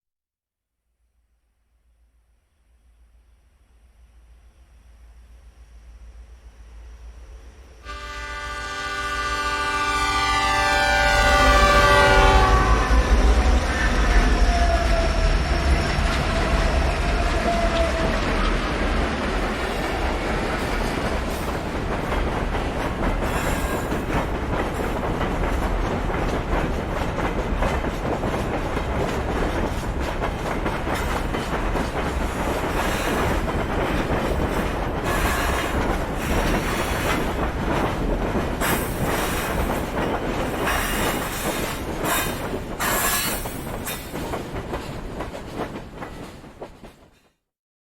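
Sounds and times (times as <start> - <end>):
wheels rumbling on rail: 5.0 - 47.3.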